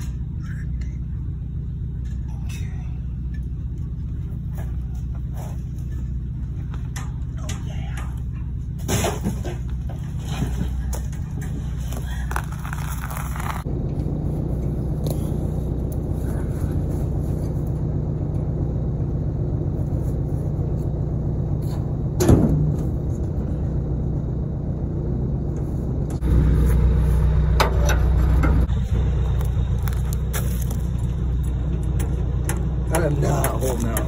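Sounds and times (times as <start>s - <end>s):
engine clatters: 0.0s - 34.0s
pickup engine idling: 0.0s - 34.0s.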